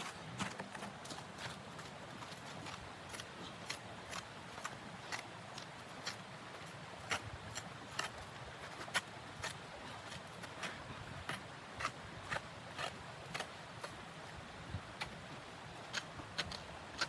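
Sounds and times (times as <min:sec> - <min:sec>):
footsteps crunching: 0:00.0 - 0:14.1.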